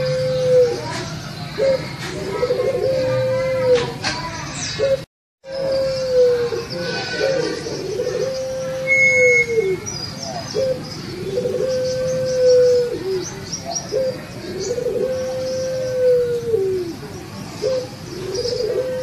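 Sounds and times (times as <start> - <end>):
dove cooing: 0.0 - 3.9, 4.8 - 19.0.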